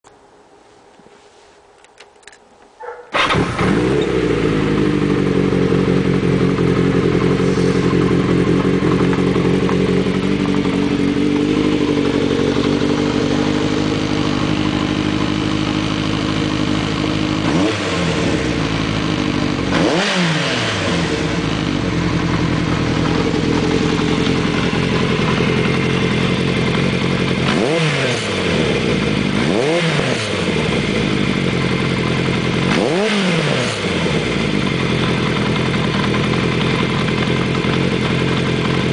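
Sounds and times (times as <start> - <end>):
motorcycle engine idling and revving: 2.8 - 38.9.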